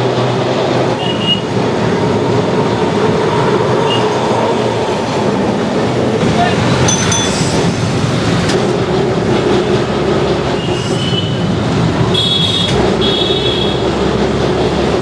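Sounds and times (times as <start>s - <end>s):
tram rumbling and rattling: 0.0s - 15.0s.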